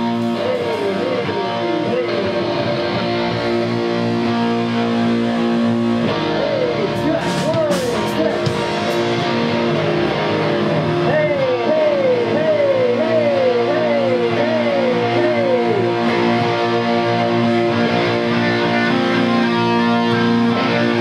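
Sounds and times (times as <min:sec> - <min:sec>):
electric guitars through amplifiers: 0:00.0 - 0:21.0
guitar bending notes: 0:00.0 - 0:21.0.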